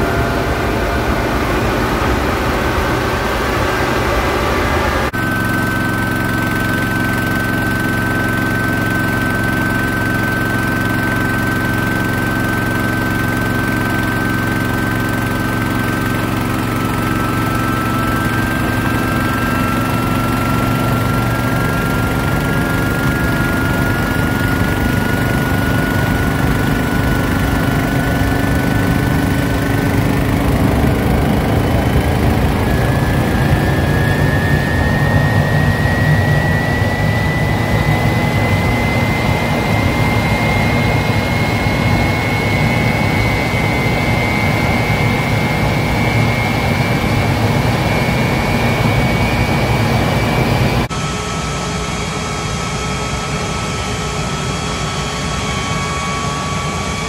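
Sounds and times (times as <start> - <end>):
turbojet engine spooling up: 0.0 - 57.0.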